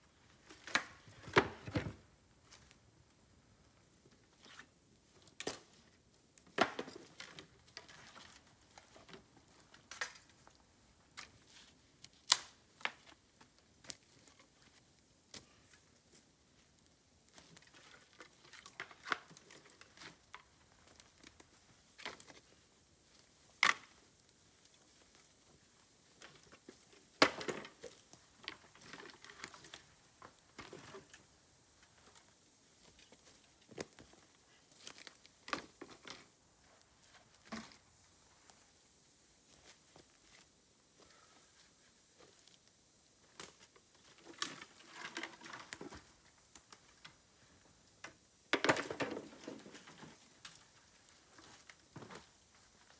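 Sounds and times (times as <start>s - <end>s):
bamboo bonfire crackling and popping: 0.0s - 52.9s.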